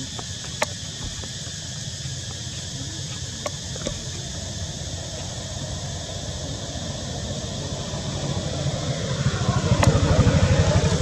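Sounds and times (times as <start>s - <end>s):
distant traffic rumble: 0.0s - 11.0s
insects droning: 0.0s - 11.0s.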